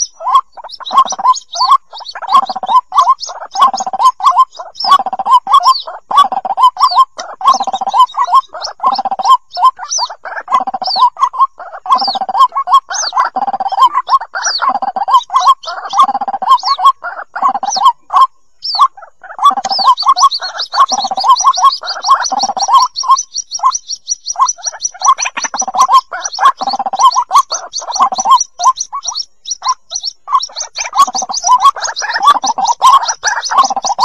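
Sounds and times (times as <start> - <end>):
bird chicks high peeps: 0.0 - 34.0
bird chicks low calls: 0.0 - 34.0.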